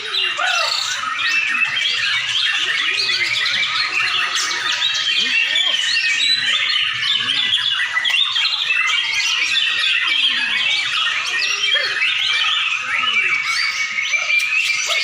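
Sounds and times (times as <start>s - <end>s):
caged birds singing in chorus: 0.0s - 15.0s.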